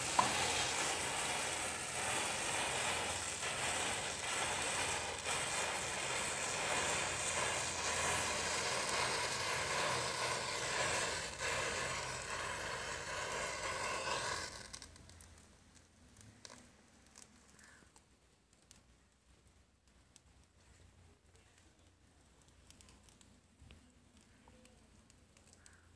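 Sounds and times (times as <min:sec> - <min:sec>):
matches burning hiss and crackle: 0:00.0 - 0:25.9.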